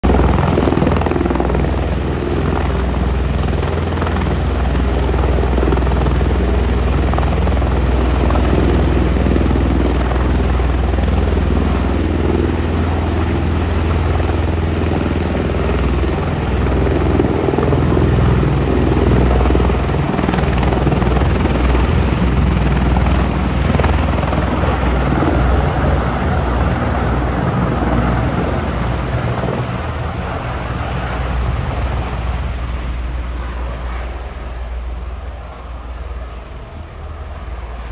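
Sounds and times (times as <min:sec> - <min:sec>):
tiltrotor aircraft engines running: 0:00.0 - 0:37.9.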